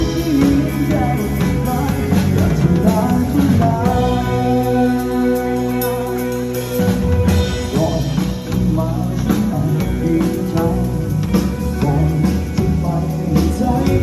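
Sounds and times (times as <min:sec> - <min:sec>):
live pop-rock band playing: 0:00.0 - 0:14.0.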